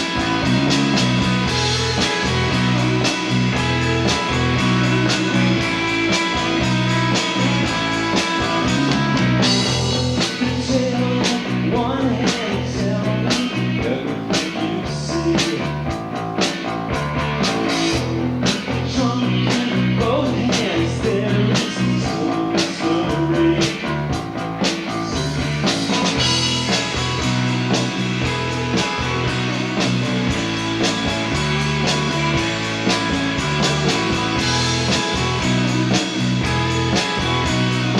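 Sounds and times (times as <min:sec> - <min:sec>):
bass guitar: 0:00.0 - 0:37.9
drum kit: 0:00.0 - 0:37.9
electric guitars: 0:00.0 - 0:37.9
wavering guitar melody: 0:00.0 - 0:37.9.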